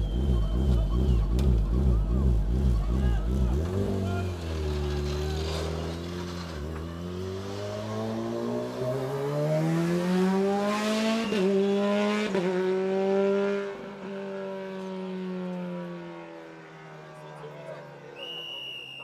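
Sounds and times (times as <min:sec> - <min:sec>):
racing car engine accelerating: 0:00.0 - 0:17.2.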